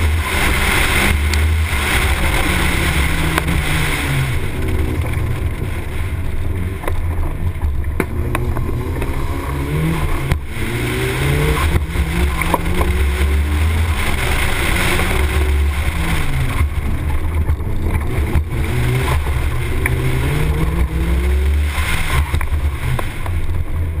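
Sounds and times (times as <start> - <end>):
car engine revving hard: 0.0 - 24.0
wind rumble on microphone: 0.0 - 24.0.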